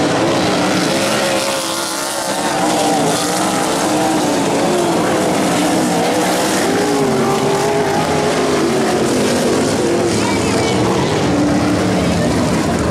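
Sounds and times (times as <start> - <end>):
race car engines: 0.0 - 12.9.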